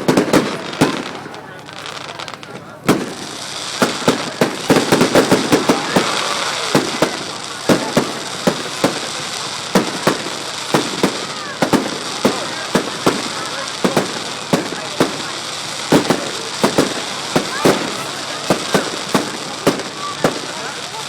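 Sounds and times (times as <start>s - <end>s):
crackling hiss: 0.0s - 21.0s
firework bangs and pops: 0.0s - 21.0s.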